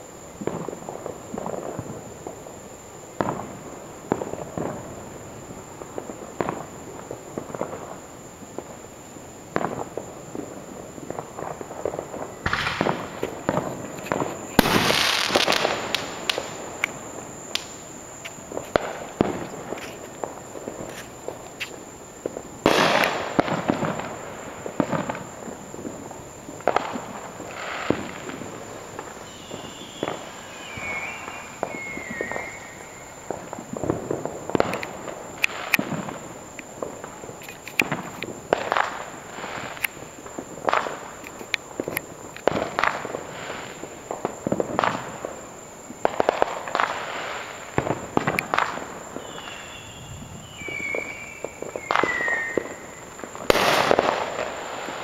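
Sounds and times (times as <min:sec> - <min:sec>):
fireworks bangs and crackles: 0:00.0 - 0:55.0
falling firework whistle: 0:04.1 - 0:55.0.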